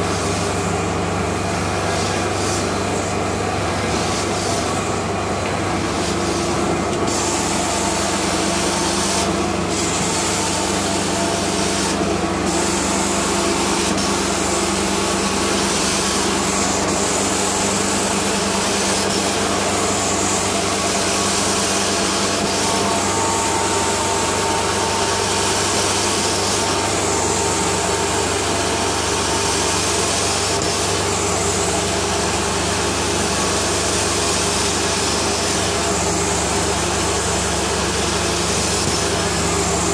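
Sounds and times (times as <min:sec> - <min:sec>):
low machine hum: 0:00.0 - 0:39.9
vacuum airflow rushing: 0:00.0 - 0:39.9
spray hiss: 0:05.9 - 0:39.9.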